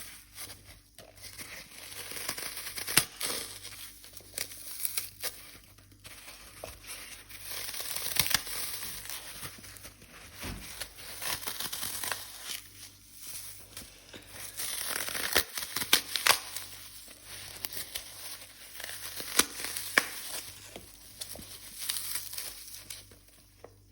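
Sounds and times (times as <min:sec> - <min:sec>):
dry floral foam crunching: 0:00.0 - 0:23.9.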